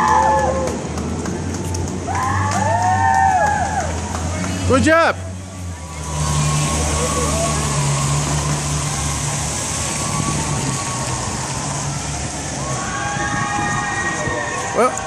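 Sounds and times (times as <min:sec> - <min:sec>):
vehicle engine running: 0:00.0 - 0:12.9
street noise hiss: 0:00.0 - 0:15.0.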